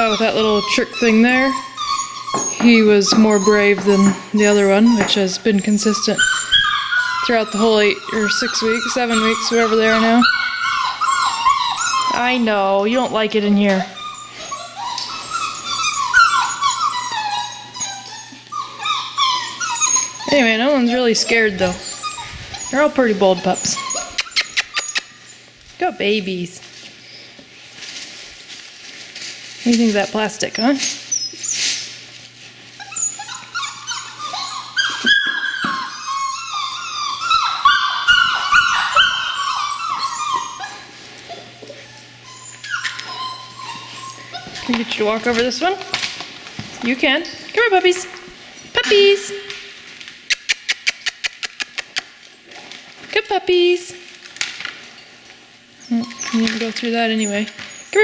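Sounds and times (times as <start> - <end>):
puppies whining: 0.0 - 28.9, 29.7 - 52.8, 54.1 - 58.0.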